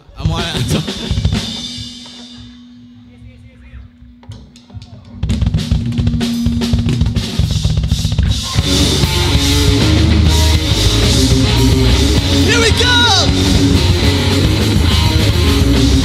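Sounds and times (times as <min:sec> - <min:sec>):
drum kit playing: 0:00.0 - 0:16.0
rock band playing: 0:00.0 - 0:16.0.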